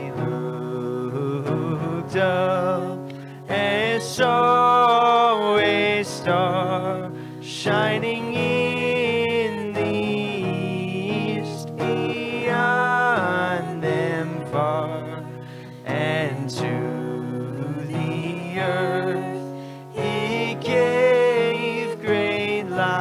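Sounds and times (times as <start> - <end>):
acoustic guitar: 0.0 - 23.0
person singing worship song: 0.0 - 23.0.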